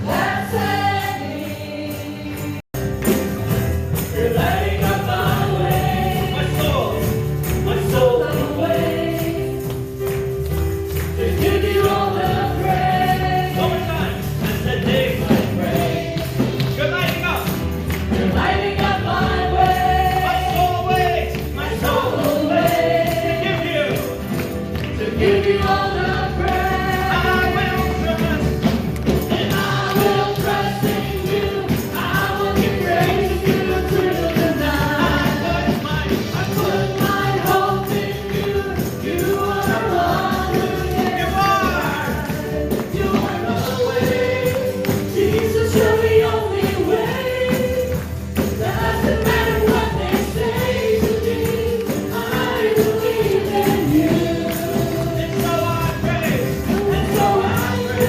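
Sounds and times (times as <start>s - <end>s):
choir singing: 0.0s - 2.6s, 4.1s - 7.0s, 7.6s - 9.6s, 11.1s - 16.9s, 18.1s - 24.2s, 24.9s - 28.4s, 29.1s - 58.0s
band playing worship music: 0.0s - 58.0s
tambourine: 0.0s - 58.0s.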